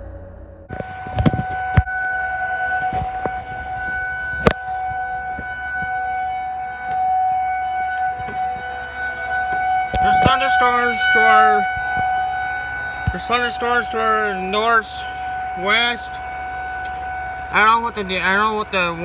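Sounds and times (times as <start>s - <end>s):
outdoor warning sirens: 0.0s - 19.0s.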